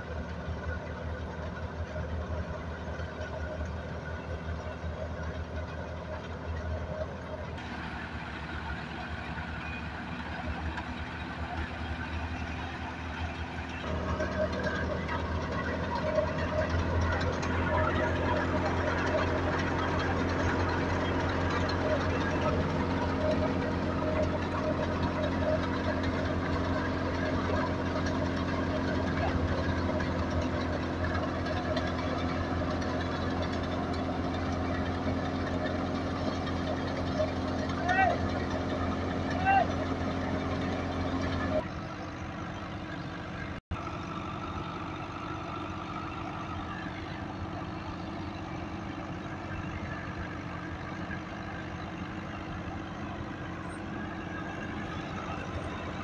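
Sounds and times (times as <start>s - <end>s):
thresher mechanical drone: 0.0s - 56.0s
tractor diesel engine throbbing: 0.0s - 56.0s.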